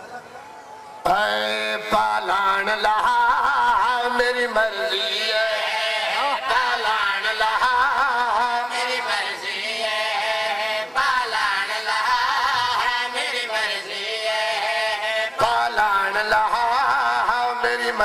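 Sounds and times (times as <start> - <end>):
man chanting into a microphone: 1.0 - 18.0.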